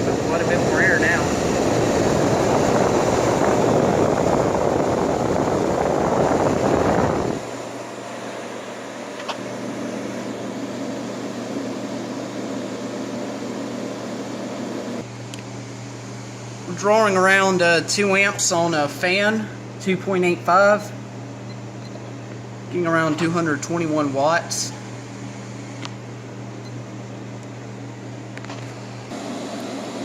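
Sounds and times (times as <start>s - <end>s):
air conditioner fan rushing air: 0.0s - 30.0s
steady motor hum: 0.0s - 30.0s.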